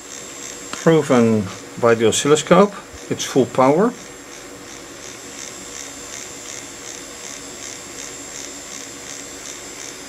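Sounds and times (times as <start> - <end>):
small electric motor whining: 0.0 - 10.0.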